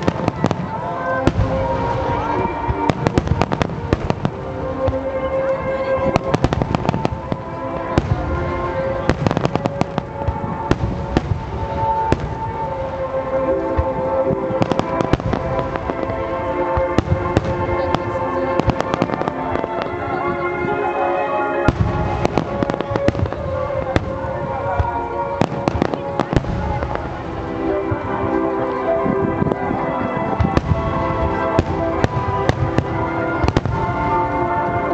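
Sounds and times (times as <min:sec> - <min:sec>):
fireworks bursting and crackling: 0:00.0 - 0:34.9
music playing: 0:00.0 - 0:34.9.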